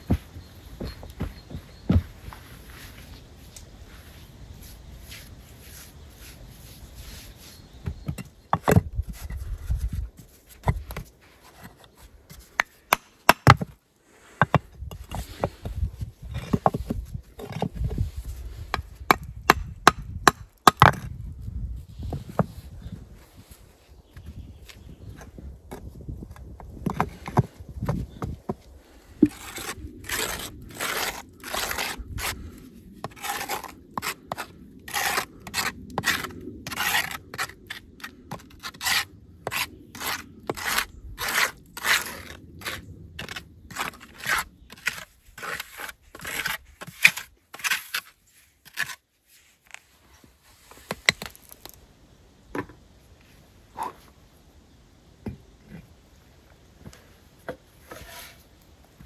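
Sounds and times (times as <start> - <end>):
gloved hand scraping bricks: 0.0 - 3.2, 4.0 - 21.2, 25.1 - 51.8, 57.8 - 58.6.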